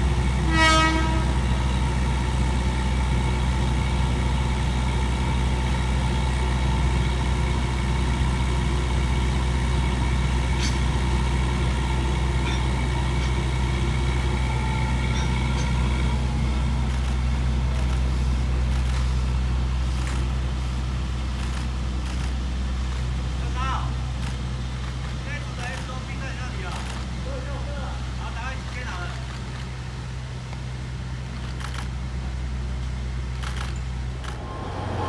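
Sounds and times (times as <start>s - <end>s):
engine idling drone: 0.0s - 35.0s.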